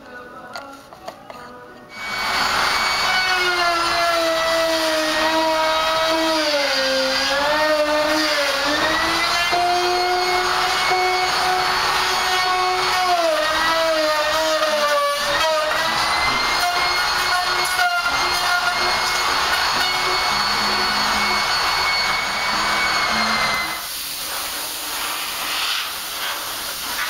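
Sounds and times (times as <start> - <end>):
router motor whine: 1.9 - 23.9.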